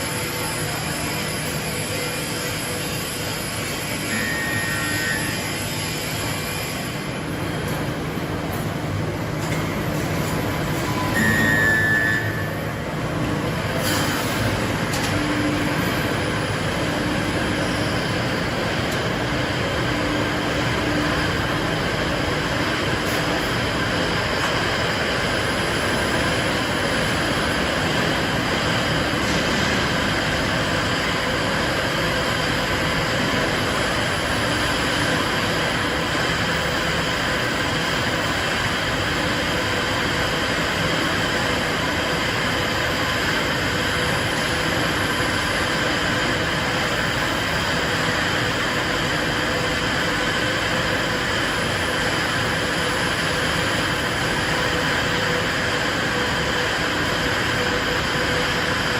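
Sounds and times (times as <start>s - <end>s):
machine running with steady hum: 0.0s - 58.9s.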